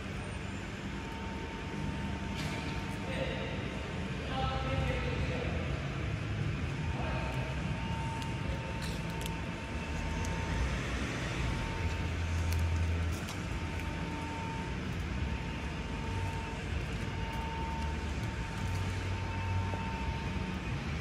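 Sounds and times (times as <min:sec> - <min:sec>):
low rumble and hiss: 0:00.0 - 0:21.0.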